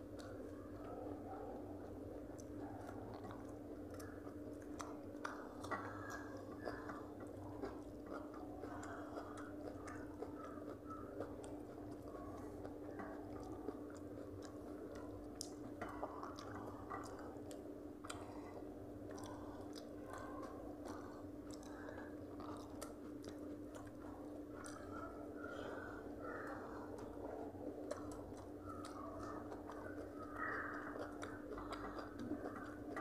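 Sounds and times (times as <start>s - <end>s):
people chewing: 0.0s - 33.0s
steady low hum: 0.0s - 33.0s.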